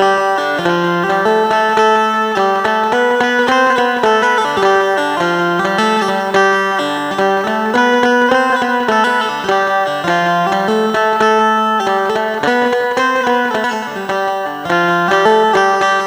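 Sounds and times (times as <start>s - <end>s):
keyed string zither melody: 0.0s - 16.0s.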